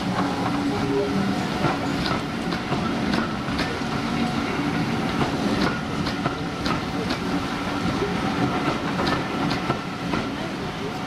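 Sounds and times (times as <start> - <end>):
train rolling rumble: 0.0 - 11.0
train wheels clicking over rail joints: 1.5 - 10.4.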